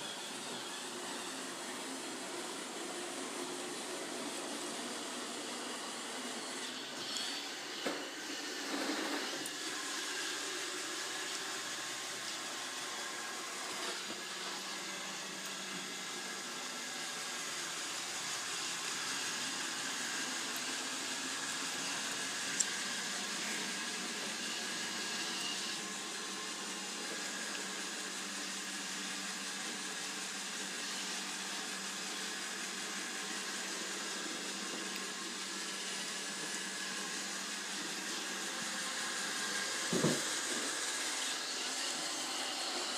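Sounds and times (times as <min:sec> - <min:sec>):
robot vacuum whirring: 0:00.0 - 0:42.9.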